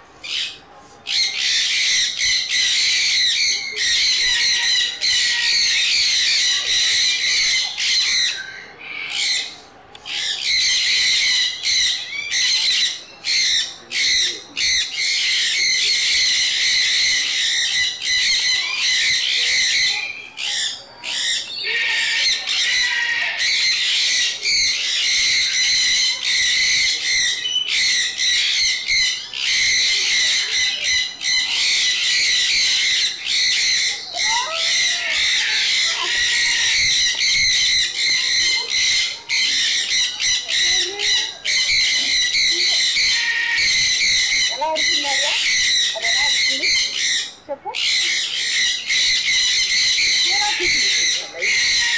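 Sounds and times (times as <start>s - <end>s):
parrots screeching: 0.2s - 51.9s.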